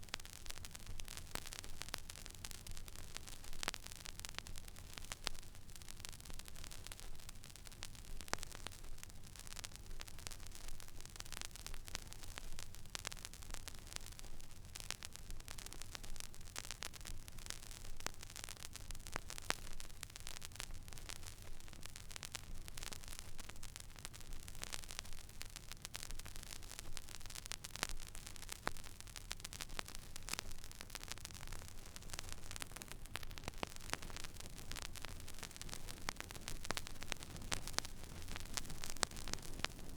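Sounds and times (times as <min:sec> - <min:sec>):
vinyl hiss and crackles: 0:00.0 - 0:39.9.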